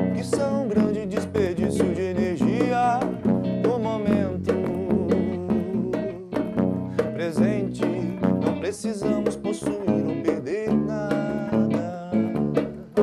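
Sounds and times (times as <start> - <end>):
drum kit: 0.0 - 13.0
electric bass: 0.0 - 13.0
electric guitar sliding notes: 0.0 - 13.0.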